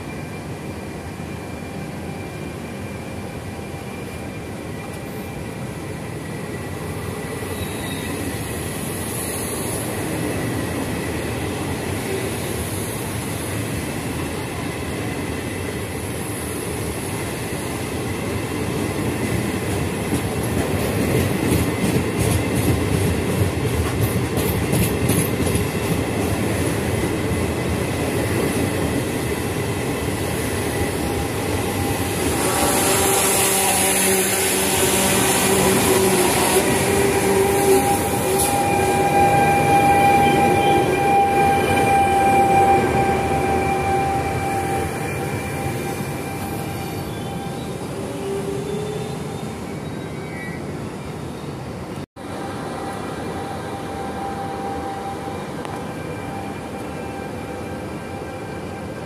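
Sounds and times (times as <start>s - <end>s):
passenger train rumbling past: 0.0s - 59.0s.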